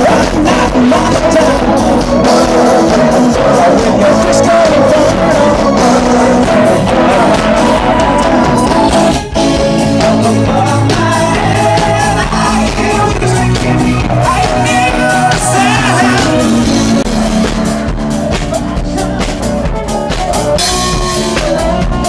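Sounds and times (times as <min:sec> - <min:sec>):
singer: 0:00.0 - 0:17.5, 0:18.1 - 0:22.0
drum kit: 0:00.0 - 0:22.0
electric guitars: 0:00.0 - 0:22.0.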